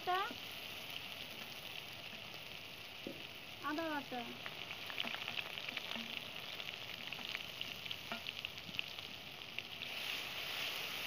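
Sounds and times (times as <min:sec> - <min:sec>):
hot oil sizzling and crackling: 0:00.0 - 0:11.0.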